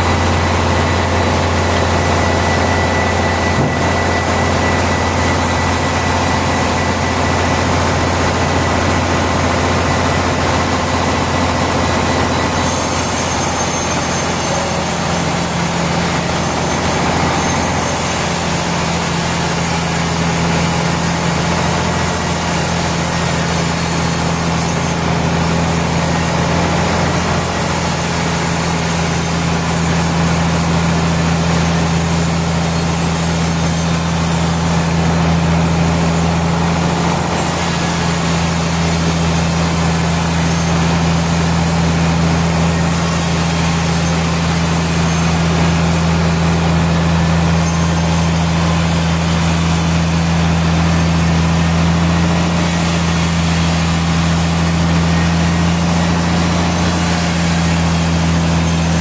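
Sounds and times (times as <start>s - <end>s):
loud even mechanical noise: 0.0s - 59.0s
sawmill machinery low hum: 0.0s - 59.0s.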